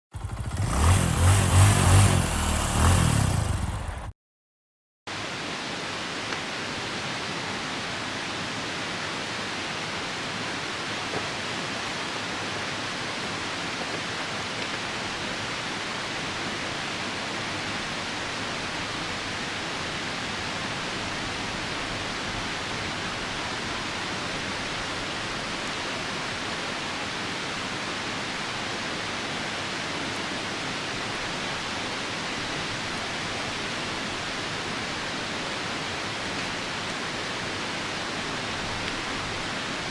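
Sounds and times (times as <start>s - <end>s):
rain: 0.2s - 3.8s, 5.1s - 39.9s
river rushing: 0.4s - 3.9s, 5.1s - 39.9s.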